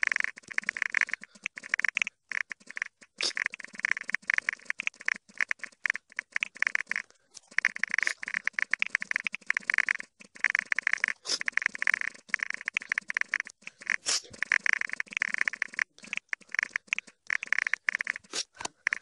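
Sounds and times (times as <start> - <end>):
sped-up keyboard typing: 0.0 - 19.0.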